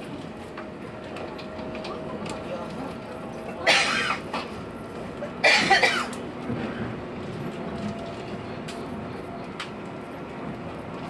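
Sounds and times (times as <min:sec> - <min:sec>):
train carriage running noise: 0:00.0 - 0:11.0.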